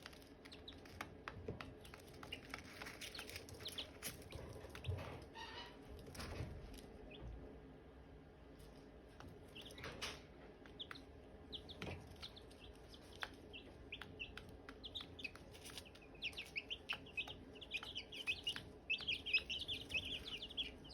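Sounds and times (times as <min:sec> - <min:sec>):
chicks peeping: 0:00.0 - 0:07.5, 0:08.9 - 0:20.9.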